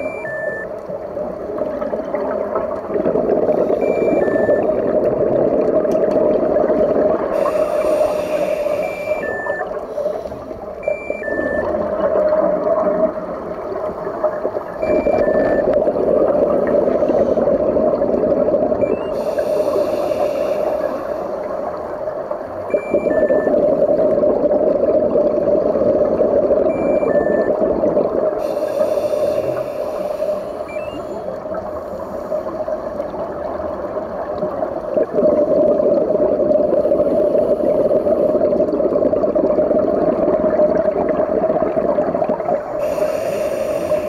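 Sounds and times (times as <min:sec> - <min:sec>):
steady underwater hum: 0:00.0 - 0:44.0
regulator exhaling bubbles: 0:01.6 - 0:10.0, 0:10.9 - 0:21.8, 0:22.7 - 0:31.7, 0:32.3 - 0:44.0.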